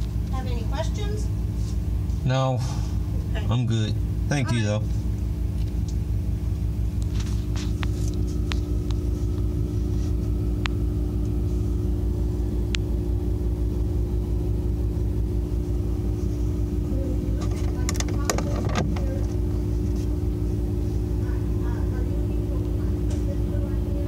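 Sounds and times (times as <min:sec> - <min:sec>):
low hum and rumble: 0:00.0 - 0:24.0.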